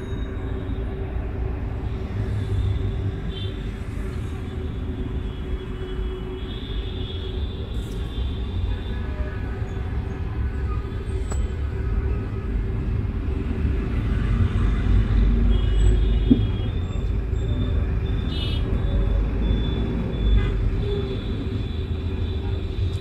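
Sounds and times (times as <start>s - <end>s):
low rumble of city traffic: 0.0s - 23.0s.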